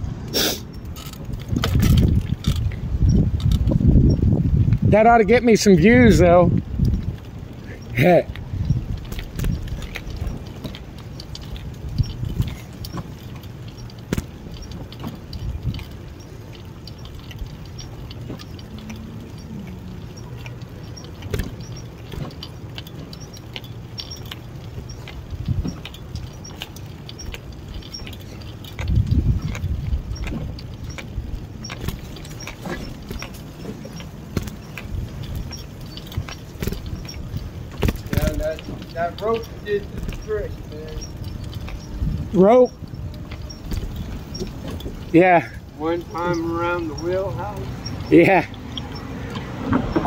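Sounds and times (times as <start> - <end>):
bicycle rattling and jingling: 0.0 - 50.0
tyres rumbling on concrete: 0.0 - 50.0
wind: 0.0 - 50.0.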